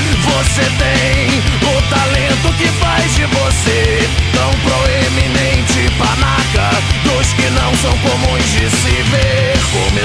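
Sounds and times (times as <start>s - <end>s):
distorted guitars: 0.0s - 10.0s
rock drums: 0.0s - 10.0s.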